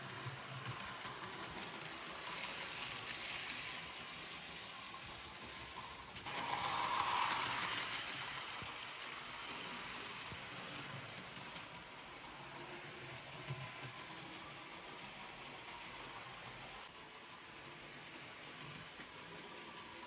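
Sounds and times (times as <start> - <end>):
model train motor whirring: 0.0 - 20.0.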